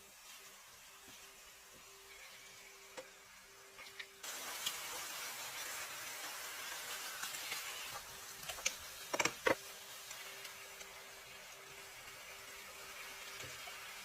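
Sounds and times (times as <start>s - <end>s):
cooking hiss: 0.0s - 14.0s.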